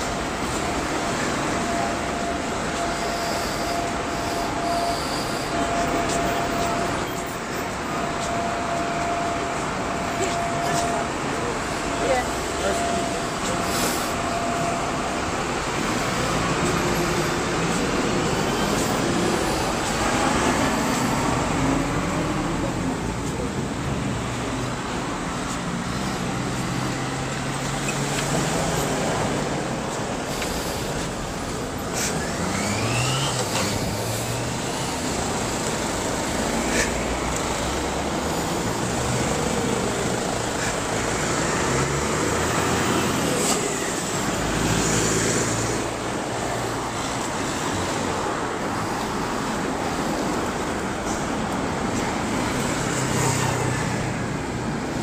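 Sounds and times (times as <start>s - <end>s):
cars and vans passing: 0.0s - 55.0s.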